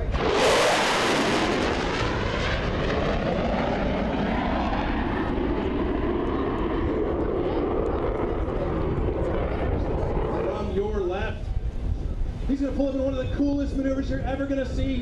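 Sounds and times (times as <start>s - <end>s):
small airplane engine overhead: 0.0s - 15.0s.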